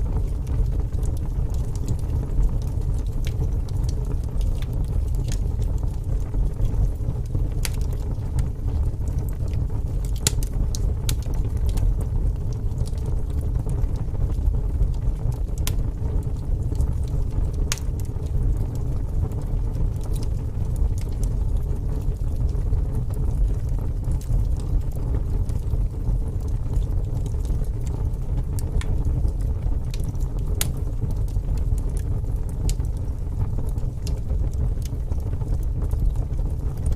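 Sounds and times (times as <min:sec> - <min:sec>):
fire crackling and popping: 0:00.0 - 0:36.9
fire flames rumbling: 0:00.0 - 0:36.9.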